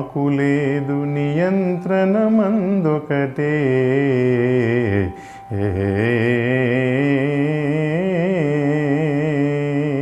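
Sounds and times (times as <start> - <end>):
man singing long notes: 0.0 - 10.0.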